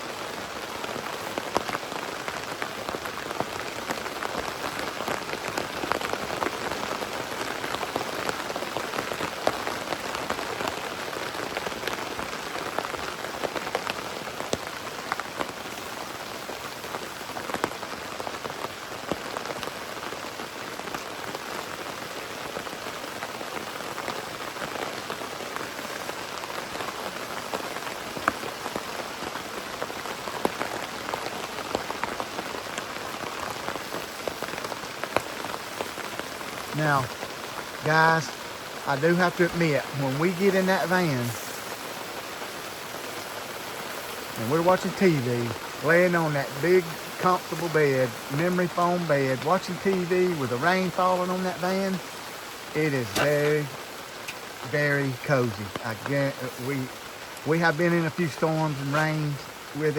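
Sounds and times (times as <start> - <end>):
hard rain on a tent: 0.0 - 59.9.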